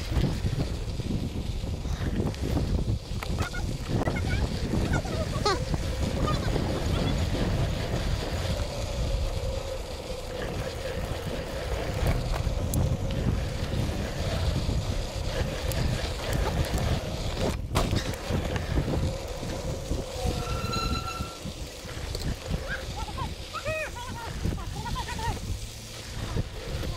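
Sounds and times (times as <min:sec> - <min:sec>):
bike tyres rolling on gravel: 0:00.0 - 0:26.9
wind buffeting microphone: 0:00.0 - 0:26.9.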